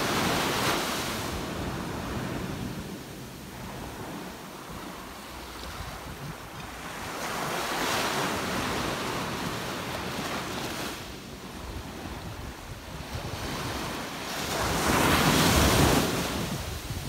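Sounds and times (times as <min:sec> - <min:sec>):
surf washing up a beach: 0:00.0 - 0:17.0.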